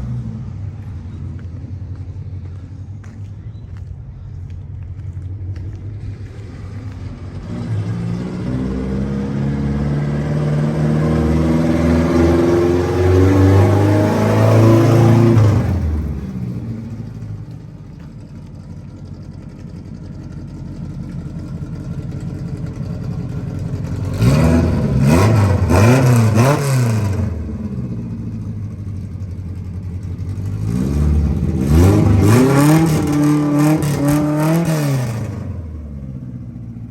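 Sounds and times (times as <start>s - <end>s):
car engine revving: 4.4s - 17.7s, 20.5s - 36.9s.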